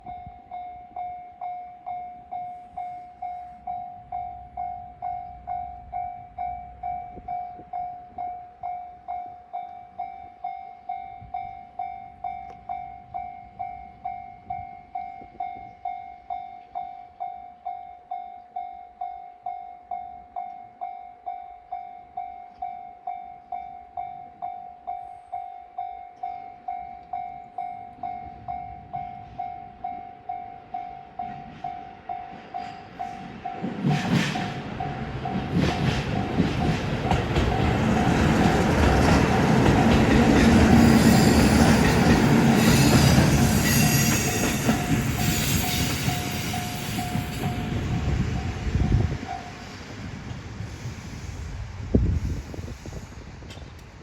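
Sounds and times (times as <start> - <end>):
level crossing warning bell: 0.0 - 33.8, 34.7 - 49.6.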